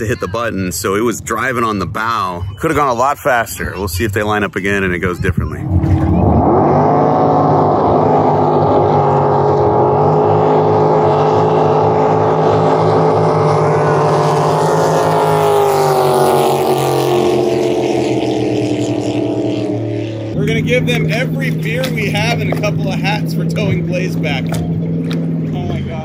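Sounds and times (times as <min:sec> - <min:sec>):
jet boat engines roaring past: 0:00.0 - 0:26.0.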